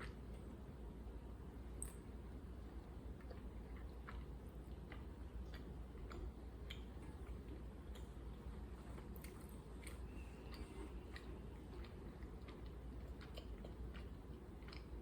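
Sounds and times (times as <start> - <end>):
person chewing food: 0.0 - 0.7, 1.6 - 15.0.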